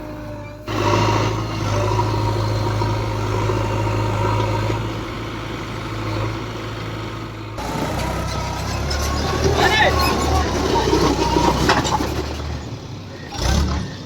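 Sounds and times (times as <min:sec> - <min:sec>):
diesel engine low drone: 0:00.0 - 0:14.0.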